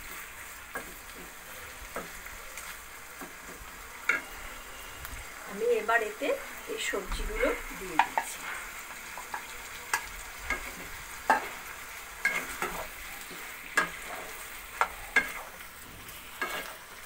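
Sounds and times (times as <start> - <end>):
food sizzling: 0.0 - 17.0
wooden spatula scraping a wok: 0.0 - 17.0.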